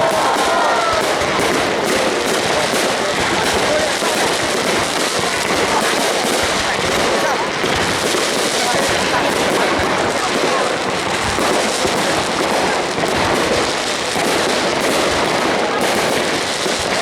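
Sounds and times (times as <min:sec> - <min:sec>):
crowd voices: 0:00.0 - 0:17.0
fireworks bangs and crackles: 0:00.0 - 0:17.0.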